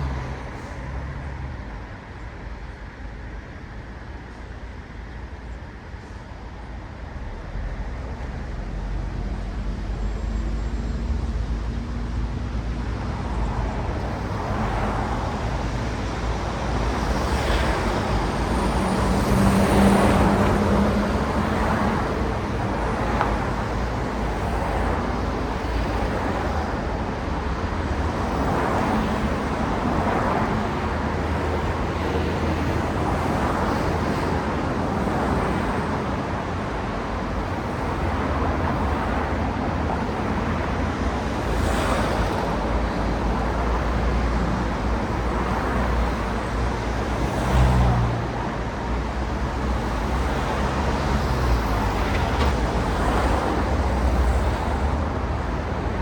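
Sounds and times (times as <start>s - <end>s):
steady engine hum: 4.2s - 56.0s
cars passing: 11.1s - 56.0s.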